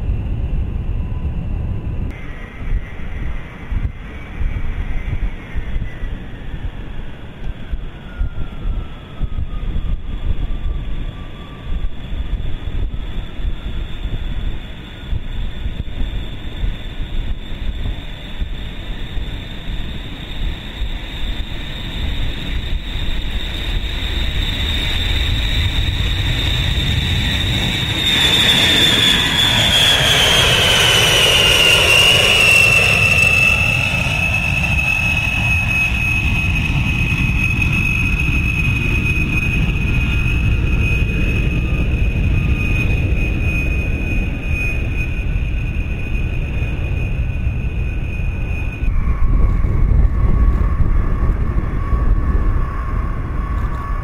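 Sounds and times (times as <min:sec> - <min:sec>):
jet engines roaring with whine: 0:00.0 - 0:54.0.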